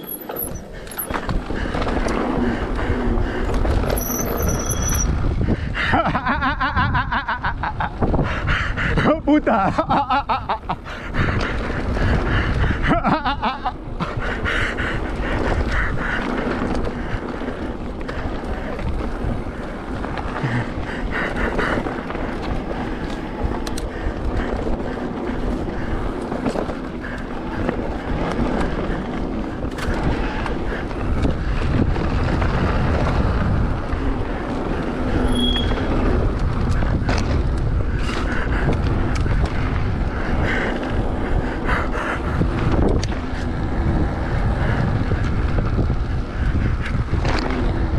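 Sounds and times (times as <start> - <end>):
bike knocking and rattling: 0.0 - 8.3, 9.0 - 47.9
bike tyres rolling on loose ground: 0.0 - 47.9
wind rushing over microphone: 0.0 - 47.9.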